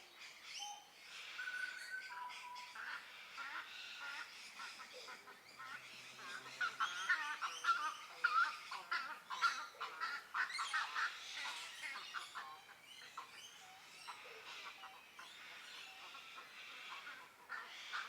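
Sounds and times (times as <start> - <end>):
birds squawking and chirping: 0.0 - 18.0.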